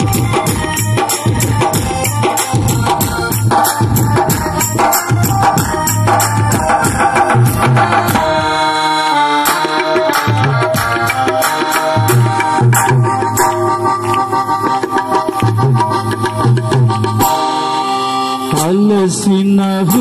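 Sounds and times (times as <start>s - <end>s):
drum beaten with sticks: 0.0s - 17.5s
keyboard melody: 0.0s - 20.0s.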